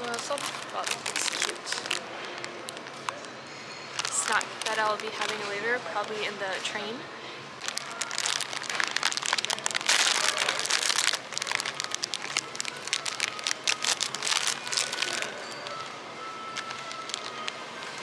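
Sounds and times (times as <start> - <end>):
plastic wrapper crinkling: 0.0 - 6.9, 7.5 - 15.9, 16.5 - 18.0.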